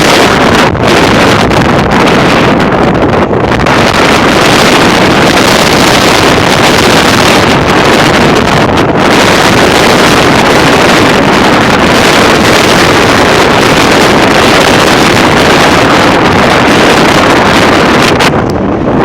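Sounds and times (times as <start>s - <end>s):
high wind buffeting microphone: 0.0s - 19.0s.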